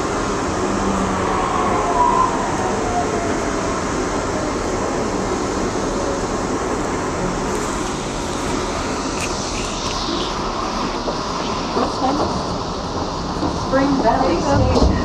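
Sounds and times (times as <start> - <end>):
light-rail train rumbling: 0.0 - 15.0.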